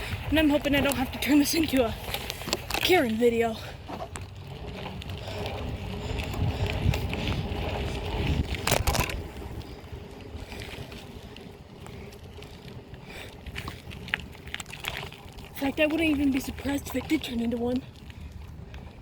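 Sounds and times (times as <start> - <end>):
bike rumble: 0.0 - 19.0
wind buffeting: 0.0 - 19.0.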